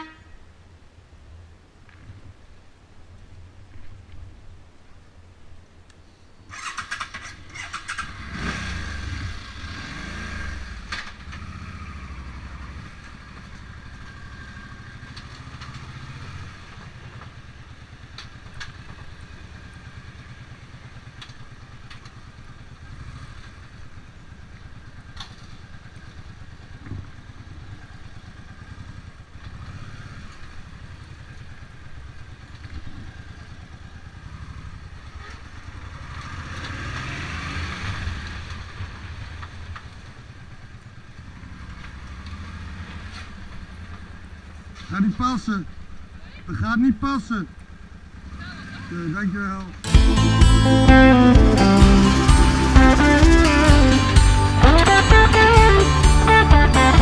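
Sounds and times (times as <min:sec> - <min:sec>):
motorcycle engine at low speed: 0:06.4 - 0:57.0.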